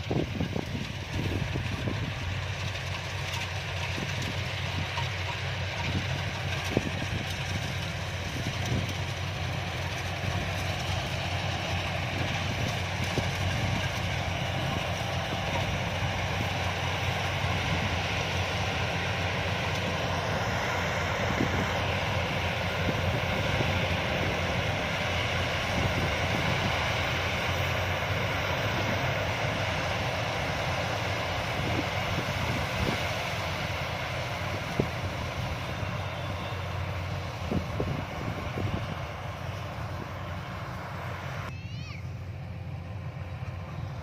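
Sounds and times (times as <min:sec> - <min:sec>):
combine harvester engine droning: 0:00.0 - 0:44.0.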